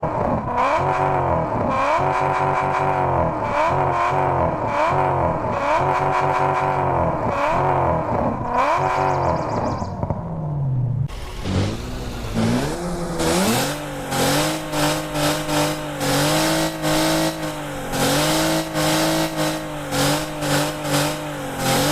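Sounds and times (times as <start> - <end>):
engine revving in blips: 0.0 - 21.9.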